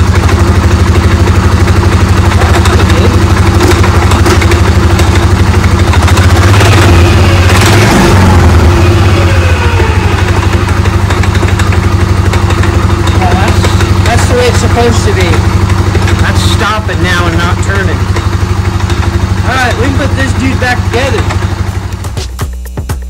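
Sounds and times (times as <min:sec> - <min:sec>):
atv engine idling: 0:00.0 - 0:22.1.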